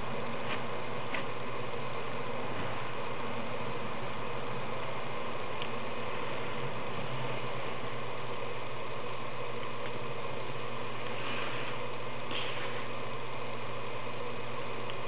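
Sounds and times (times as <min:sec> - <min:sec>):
constant low hum: 0:00.0 - 0:15.0
steady hiss: 0:00.0 - 0:15.0.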